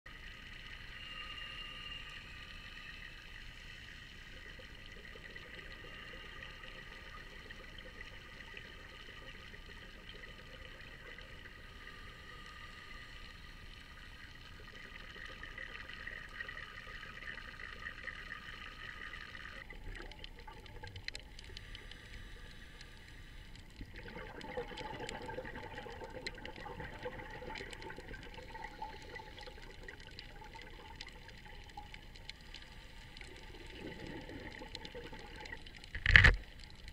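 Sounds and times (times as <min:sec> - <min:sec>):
muffled underwater hiss: 0:00.1 - 0:36.9.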